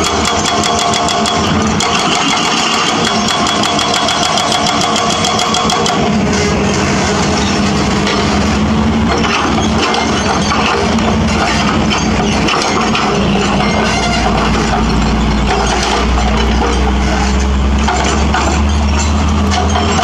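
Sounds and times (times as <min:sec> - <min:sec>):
hydraulic breaker hammering concrete: 0:00.0 - 0:06.2, 0:09.0 - 0:20.0
diesel engine running: 0:00.0 - 0:20.0.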